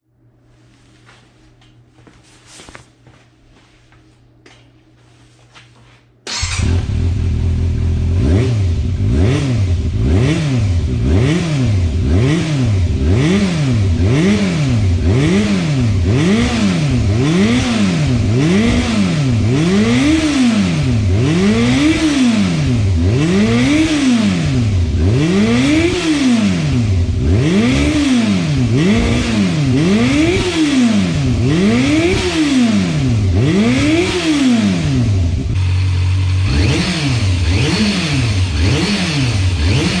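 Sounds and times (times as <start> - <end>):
motorcycle engine revving: 6.3 - 40.0.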